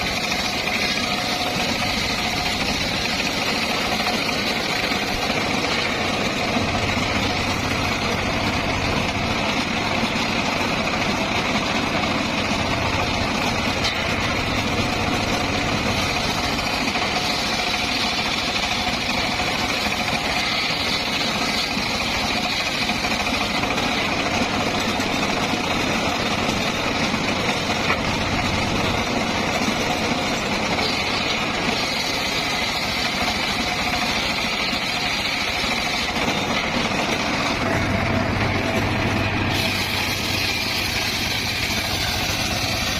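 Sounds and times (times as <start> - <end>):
sawmill engine droning: 0.0 - 42.9.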